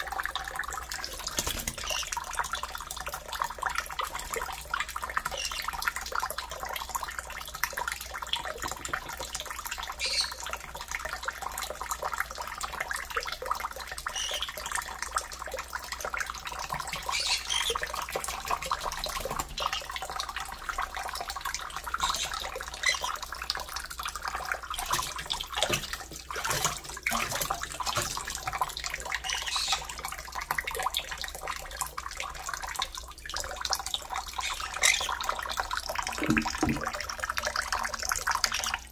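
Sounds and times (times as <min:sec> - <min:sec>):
tap water running into metal sink: 0:00.0 - 0:32.8, 0:33.4 - 0:38.9
parrot splashing in water: 0:00.3 - 0:11.8, 0:12.4 - 0:32.8, 0:33.4 - 0:38.8.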